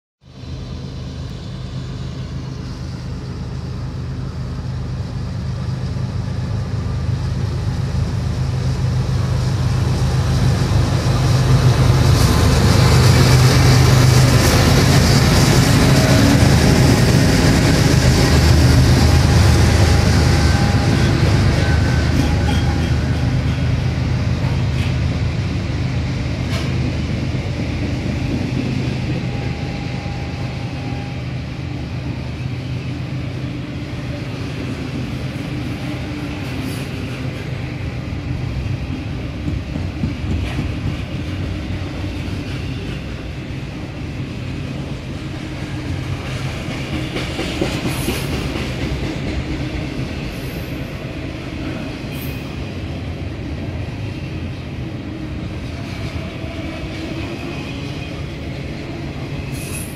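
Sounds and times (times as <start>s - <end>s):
diesel locomotive engine drone: 0.2s - 59.9s
freight cars rumbling on rails: 0.2s - 59.9s.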